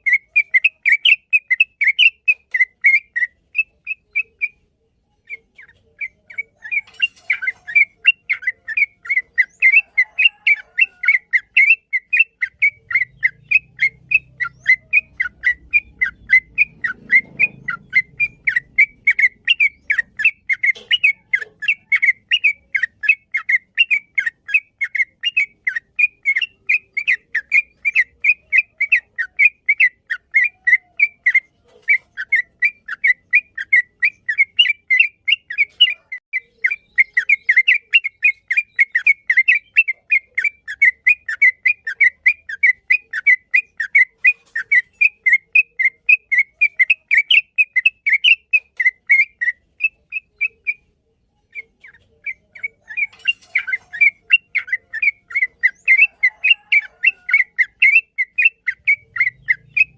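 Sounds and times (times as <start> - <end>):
bird singing whistled chirps: 0.0 - 31.6, 32.2 - 59.9.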